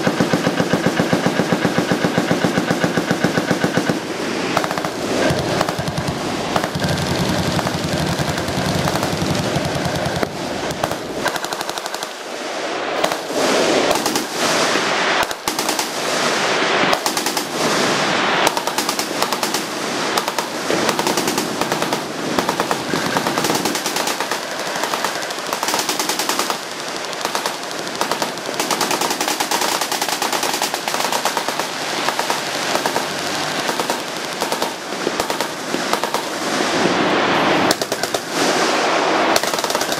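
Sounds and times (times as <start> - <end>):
machine guns firing: 0.0 - 37.0, 37.6 - 39.9.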